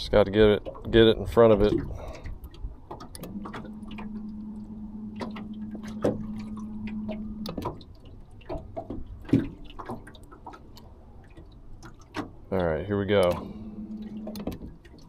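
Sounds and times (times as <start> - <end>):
water lapping against boat hull: 0.0 - 15.0
steady low hum: 1.2 - 15.0.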